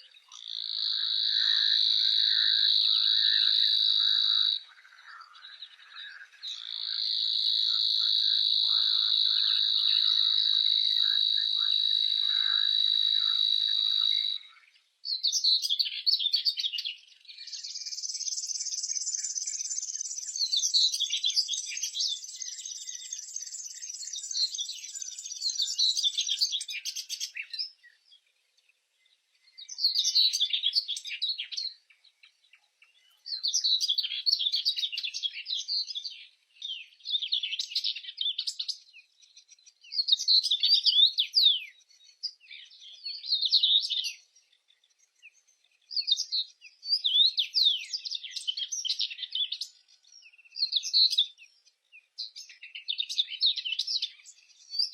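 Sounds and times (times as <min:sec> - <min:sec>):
songbird singing: 0:00.0 - 0:54.9.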